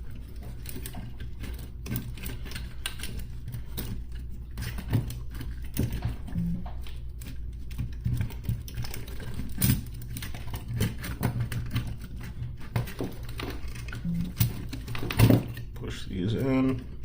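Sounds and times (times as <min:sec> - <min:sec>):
clicks and rattles of handled parts: 0:00.0 - 0:17.0
steady low hum: 0:00.0 - 0:17.0.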